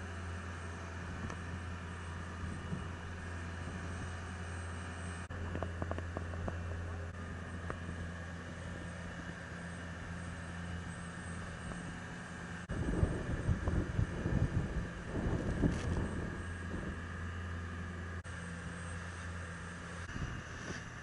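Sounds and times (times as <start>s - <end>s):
motorboat engine running: 0.0s - 21.0s.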